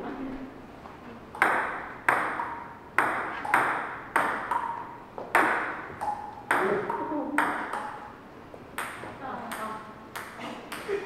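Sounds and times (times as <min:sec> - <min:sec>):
table tennis ball clicking: 0:01.3 - 0:08.2, 0:08.8 - 0:10.9.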